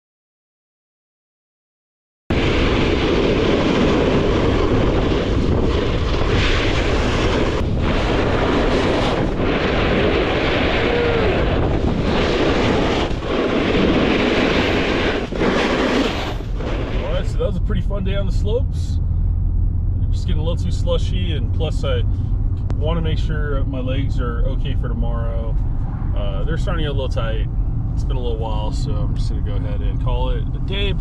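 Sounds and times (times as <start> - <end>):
wind rushing on microphone: 2.3 - 31.0.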